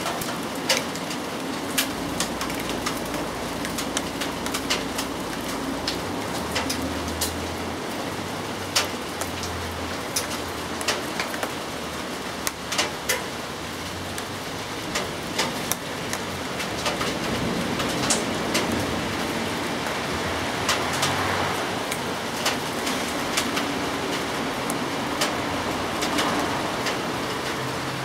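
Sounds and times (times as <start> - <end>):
raindrops ticking on a surface: 0.0 - 28.0
steady rain hiss: 0.0 - 28.0.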